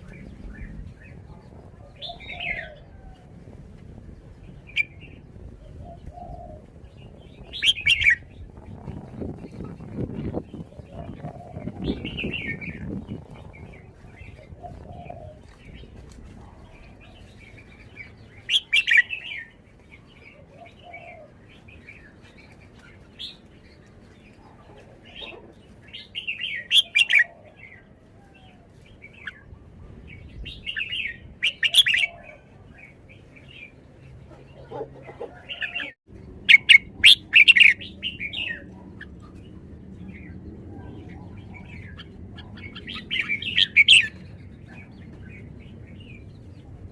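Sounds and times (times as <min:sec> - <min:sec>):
bird chirping song: 0:00.0 - 0:03.3, 0:04.0 - 0:46.9.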